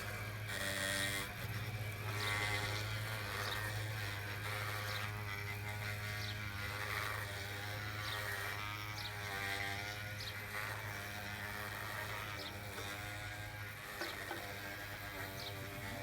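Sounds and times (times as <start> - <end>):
electric motors whirring: 0.0 - 16.0.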